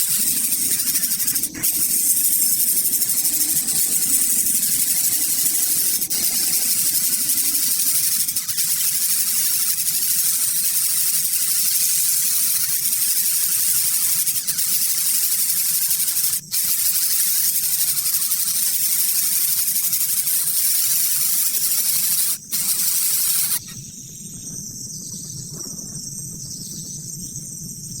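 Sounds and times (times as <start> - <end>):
steady loud hiss: 0.0 - 23.8
insect chirps: 0.0 - 28.0.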